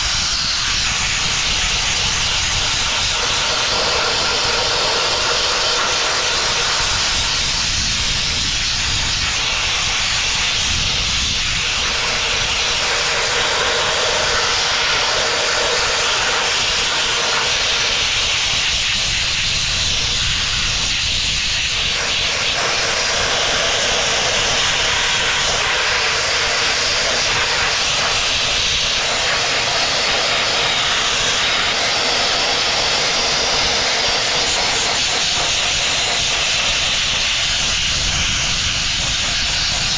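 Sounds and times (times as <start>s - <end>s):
sandblasting nozzle hissing: 0.0s - 39.9s.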